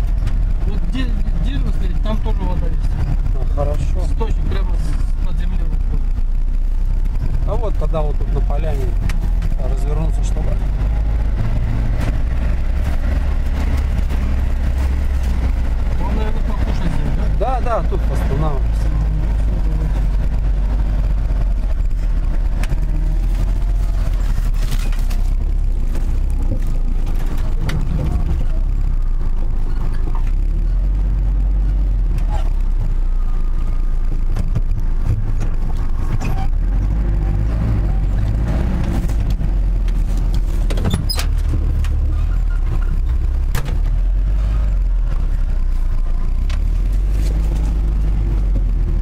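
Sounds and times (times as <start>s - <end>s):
loud low rumble: 0.0s - 49.0s.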